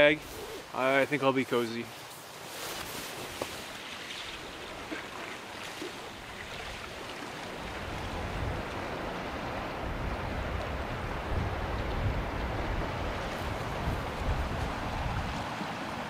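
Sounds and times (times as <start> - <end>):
small waves washing against shore: 0.0 - 16.0.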